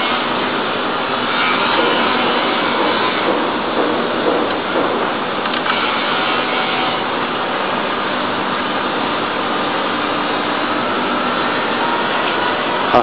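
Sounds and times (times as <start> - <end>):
steady mechanical motor noise: 0.0 - 13.0.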